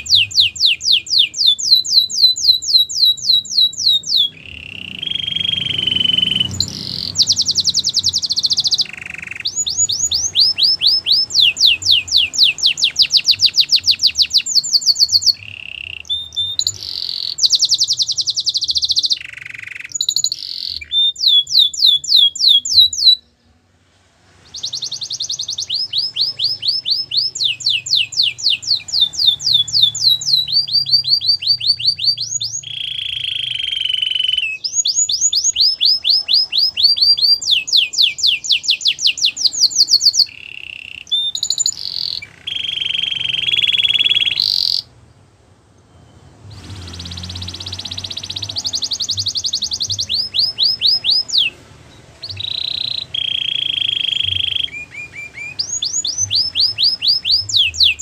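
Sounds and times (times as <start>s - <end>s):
canary singing trills: 0.0s - 23.6s, 24.4s - 58.0s.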